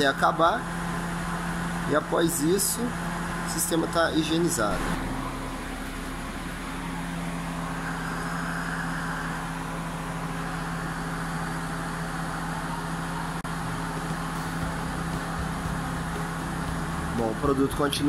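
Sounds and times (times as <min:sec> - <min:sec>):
blower fan air rush: 0:00.0 - 0:18.0
car engine idling: 0:00.0 - 0:18.0.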